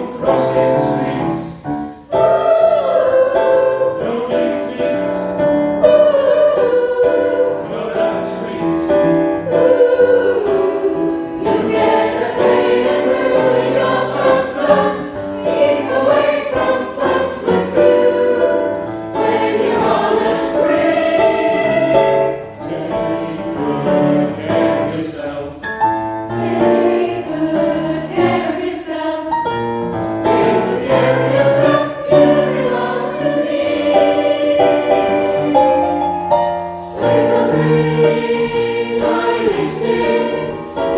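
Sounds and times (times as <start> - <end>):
choir singing in harmony: 0.0 - 40.9.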